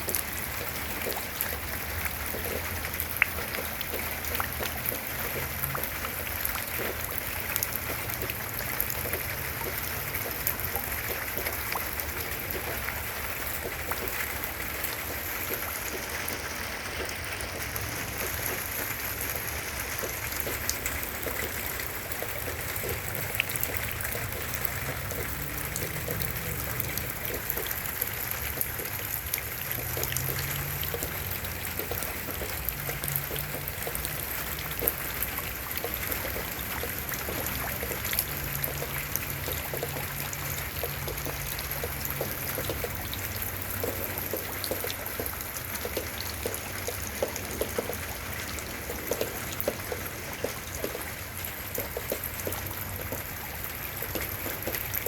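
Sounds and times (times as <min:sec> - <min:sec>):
rain falling: 0:00.0 - 0:55.0
water trickling: 0:00.0 - 0:55.0.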